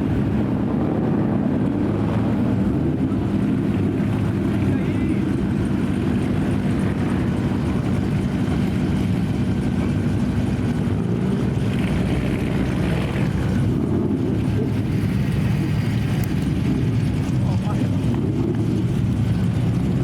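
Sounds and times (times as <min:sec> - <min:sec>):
car engine idling: 0:01.4 - 0:20.0.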